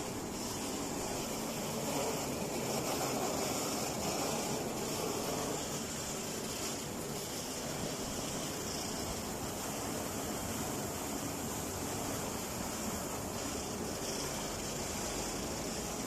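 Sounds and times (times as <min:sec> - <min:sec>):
printing machine whirring: 0:00.0 - 0:16.0.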